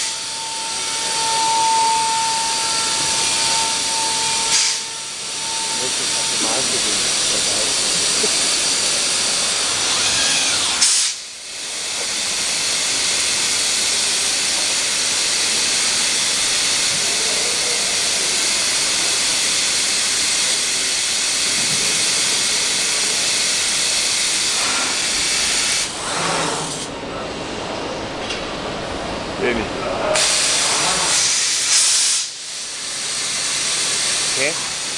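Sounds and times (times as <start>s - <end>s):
machine spindle hissing: 0.0s - 26.9s, 30.2s - 34.9s.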